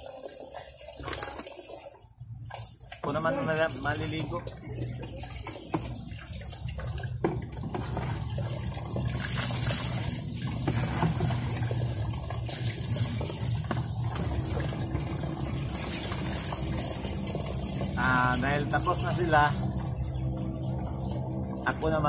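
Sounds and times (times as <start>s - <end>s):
water pouring from a hose: 0.0s - 22.0s
water splashing: 0.0s - 22.0s.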